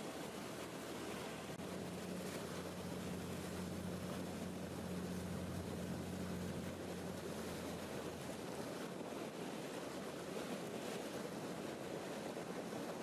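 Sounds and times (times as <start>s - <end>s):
boat engine hum: 0.0s - 13.0s
rush of wind and water: 0.0s - 13.0s.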